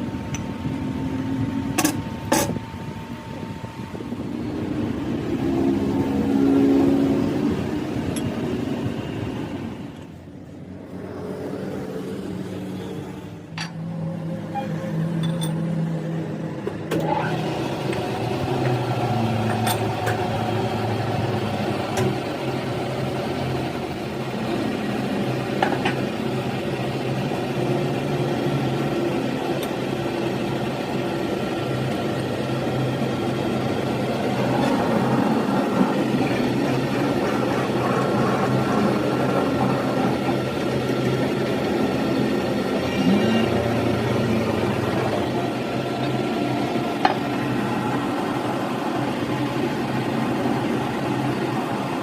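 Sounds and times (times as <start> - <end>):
machinery motor running: 0.0 - 52.0.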